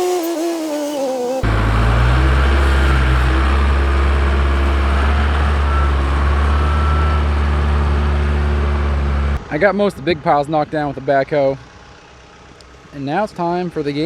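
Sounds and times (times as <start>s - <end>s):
diesel engine running steadily: 1.4s - 14.0s.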